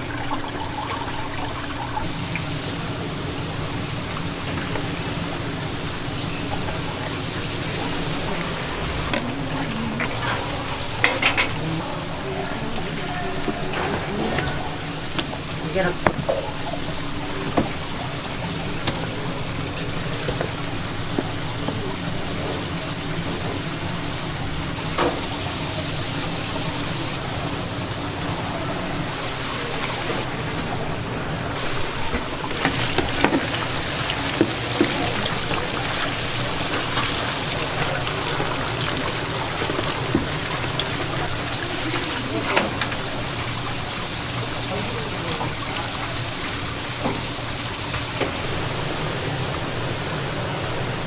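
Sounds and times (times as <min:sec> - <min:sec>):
oil sizzling in deep fryer: 0:00.0 - 0:51.0.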